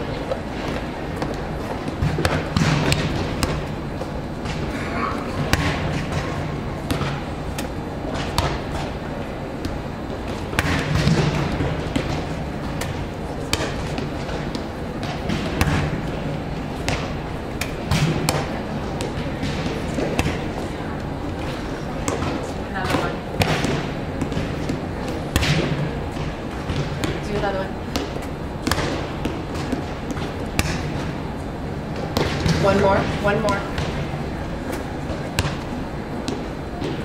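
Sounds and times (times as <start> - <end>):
many distant voices: 0.0 - 37.0
volleyballs smacking and thudding: 0.0 - 37.0.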